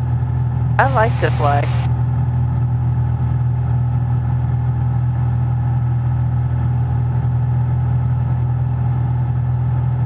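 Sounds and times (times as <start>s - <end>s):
light aircraft engine drone: 0.0s - 10.0s.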